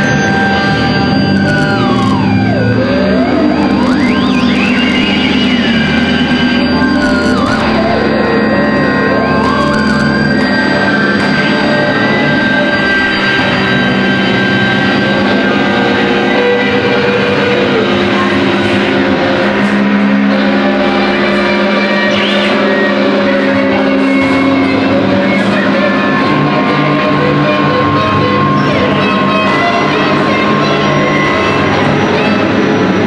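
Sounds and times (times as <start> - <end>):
guitars droning noise improvisation: 0.0 - 33.0.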